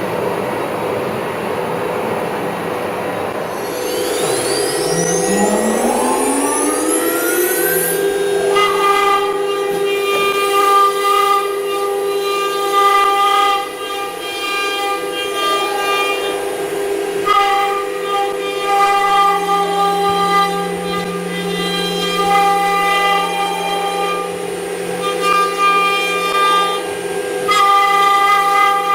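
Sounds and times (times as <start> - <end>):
router spindle whine: 3.4 - 28.9
router bit cutting whine: 3.5 - 28.9.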